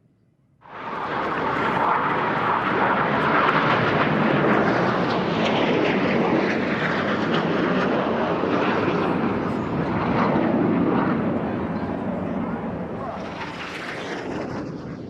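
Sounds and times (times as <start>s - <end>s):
jet engines roaring: 0.6s - 15.0s.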